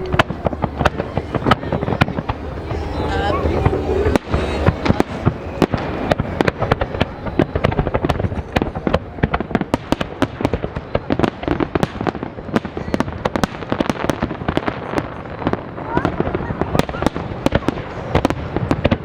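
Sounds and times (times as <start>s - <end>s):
fireworks bangs and crackling: 0.0s - 19.0s
fireworks rumble: 0.0s - 19.0s.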